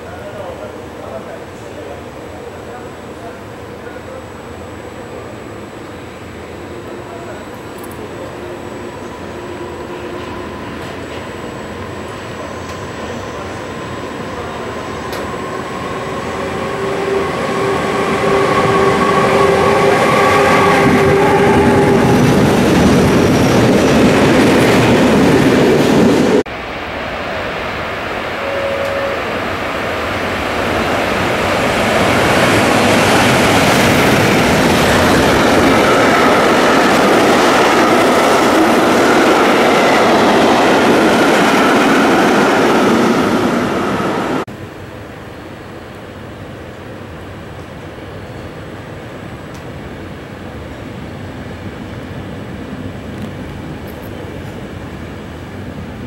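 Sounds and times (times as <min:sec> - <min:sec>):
train passing at speed: 0:00.0 - 0:56.0.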